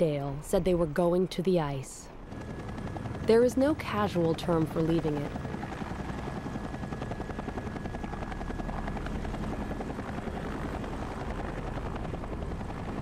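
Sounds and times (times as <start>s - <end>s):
helicopter rotor beating: 2.1s - 13.0s.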